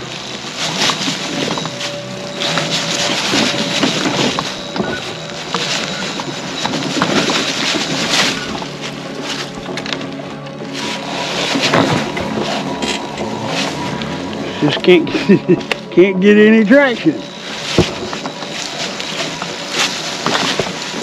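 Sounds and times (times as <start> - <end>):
tyres crunching over pine needles: 0.0 - 21.0.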